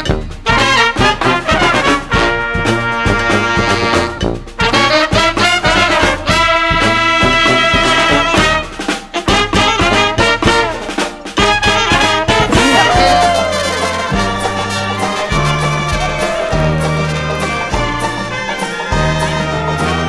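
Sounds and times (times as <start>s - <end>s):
steady drum beat: 0.0s - 19.8s
brass band playing funky tune: 0.0s - 20.0s.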